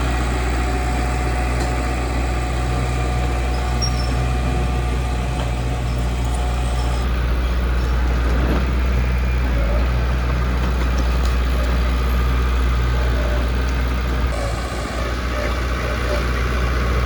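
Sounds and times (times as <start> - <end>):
construction machine engine humming: 0.0 - 17.0.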